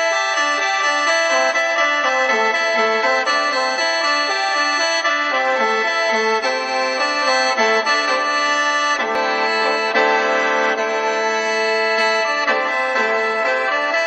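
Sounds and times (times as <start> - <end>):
mouth organ melody over drone: 0.0 - 14.0.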